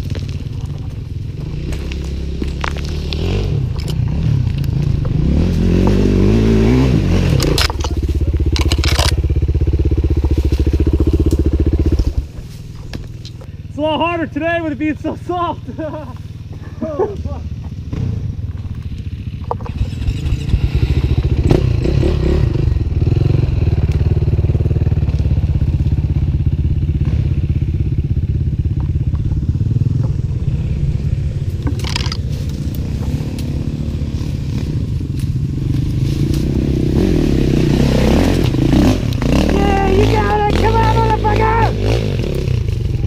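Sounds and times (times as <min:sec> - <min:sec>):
dirt bike engine running: 0:00.0 - 0:43.0.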